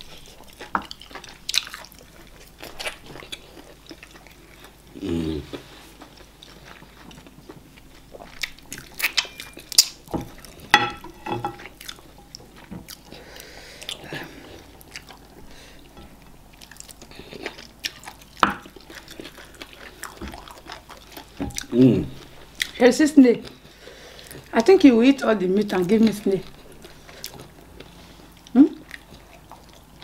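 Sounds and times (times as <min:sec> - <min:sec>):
chewing and mouth smacks: 0:00.0 - 0:04.8, 0:05.5 - 0:10.7, 0:11.6 - 0:22.8, 0:26.5 - 0:30.0.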